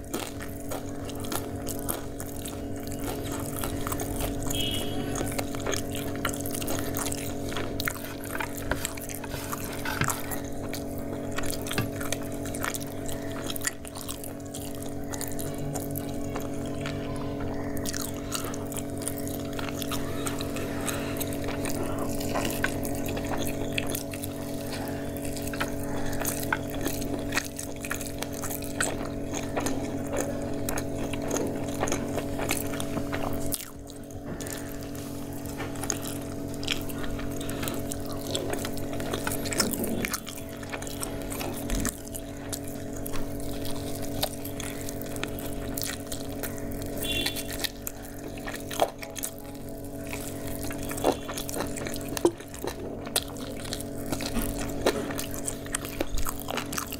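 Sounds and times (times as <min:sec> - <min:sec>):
crunchy chewing: 0:00.0 - 0:56.9
steady low hum: 0:00.0 - 0:56.9.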